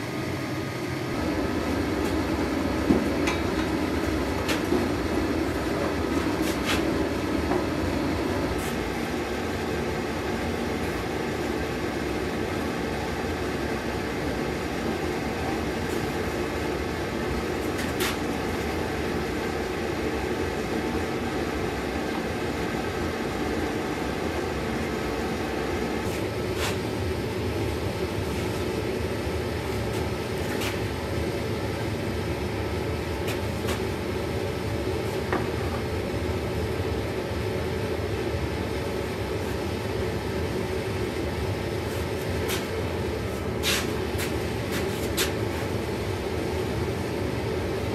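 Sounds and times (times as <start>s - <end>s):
gas forge burner rushing: 0.0s - 47.9s.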